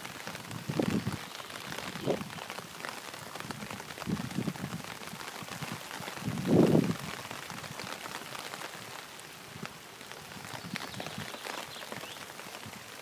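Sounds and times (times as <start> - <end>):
rain falling on river: 0.0 - 13.0.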